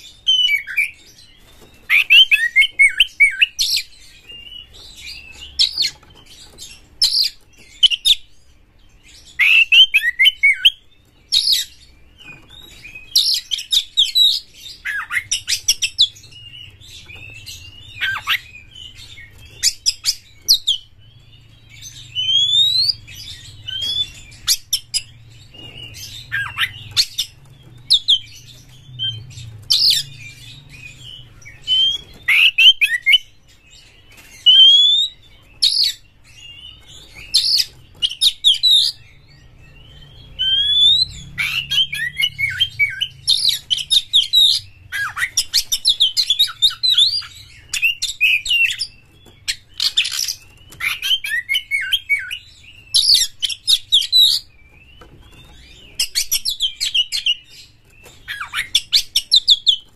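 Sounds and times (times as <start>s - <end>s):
bird singing whistles and chatter: 9.1s - 59.9s.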